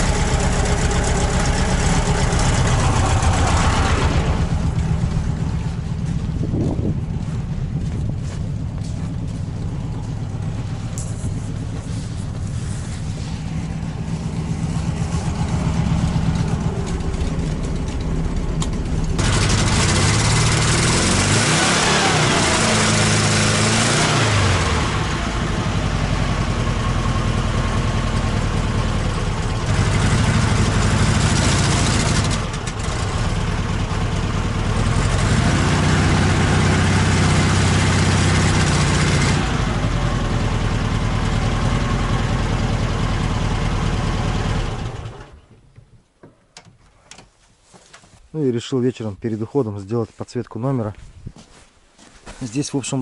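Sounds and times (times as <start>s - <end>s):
car engine revving: 0.0s - 45.2s.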